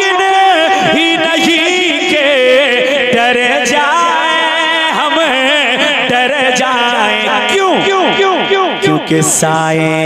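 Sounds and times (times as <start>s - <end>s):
man singing devotional song: 0.0s - 10.0s.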